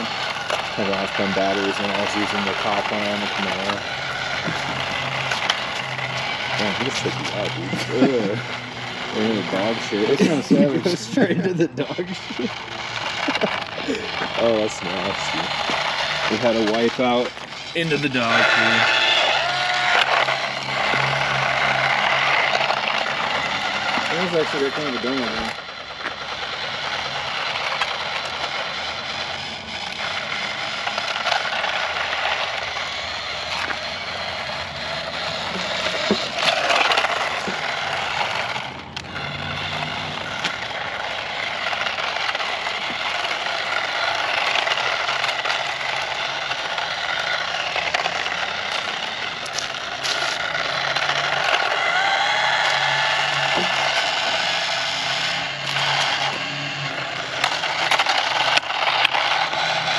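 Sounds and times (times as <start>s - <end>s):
small electric motors whining: 0.0s - 59.9s
toy car wheels scraping ground: 0.0s - 59.9s.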